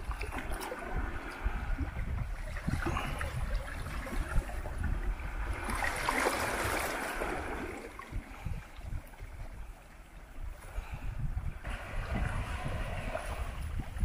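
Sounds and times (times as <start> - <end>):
waves lapping over rocks: 0.0 - 10.2, 11.6 - 14.0.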